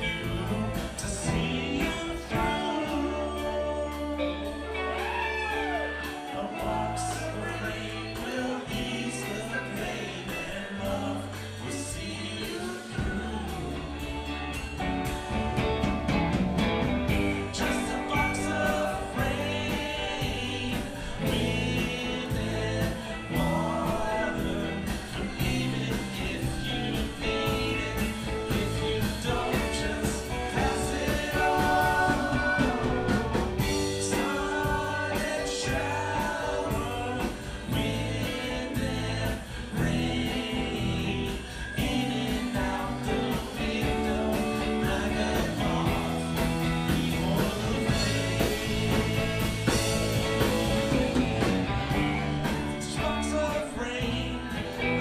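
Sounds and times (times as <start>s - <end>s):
bass: 0.0s - 55.0s
drum kit beat: 0.0s - 55.0s
electric guitars: 0.0s - 55.0s
lead and harmony vocals: 0.0s - 55.0s.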